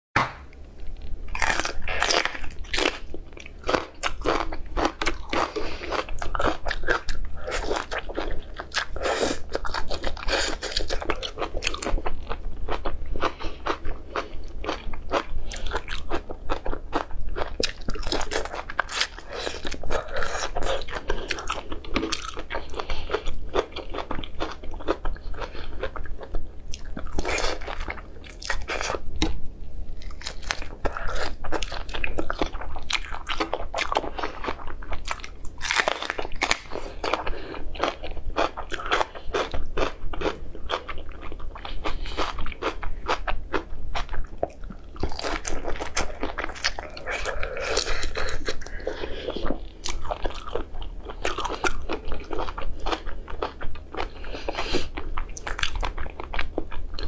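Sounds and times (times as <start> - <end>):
steady low hum: 0.2 - 57.0
person chewing with crunching: 0.8 - 57.0.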